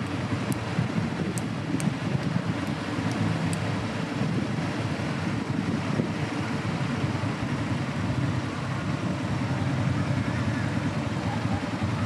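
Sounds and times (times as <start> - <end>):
low rumbling outdoor background: 0.0 - 12.0.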